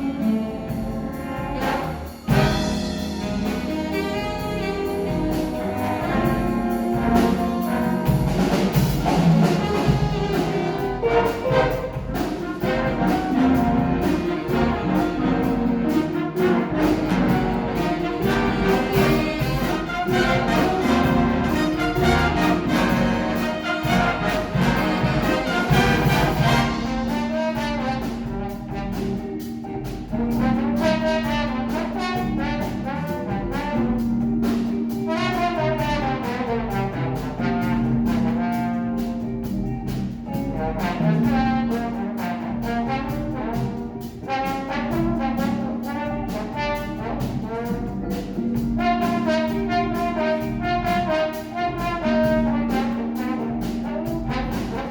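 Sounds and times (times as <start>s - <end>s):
brass instrumental music: 0.0s - 54.9s.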